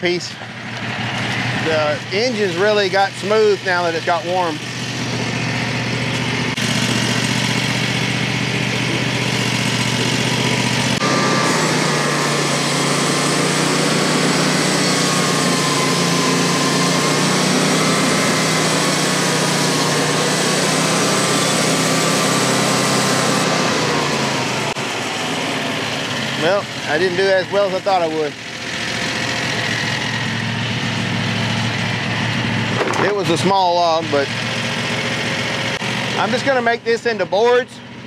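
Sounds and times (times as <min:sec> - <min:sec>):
band saw cutting log: 0:00.0 - 0:37.7
gasoline engine running: 0:00.0 - 0:38.0.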